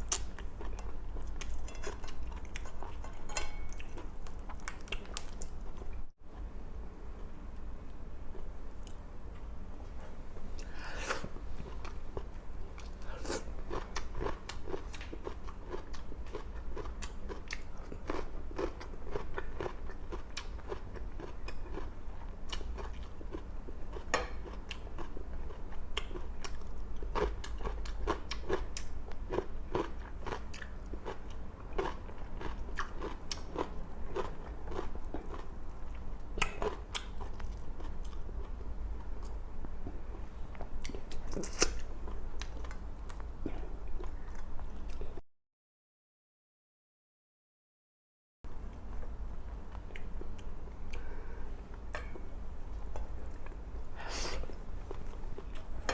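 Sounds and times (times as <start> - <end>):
person chewing food: 0.0 - 6.0, 10.6 - 45.2, 48.7 - 55.9.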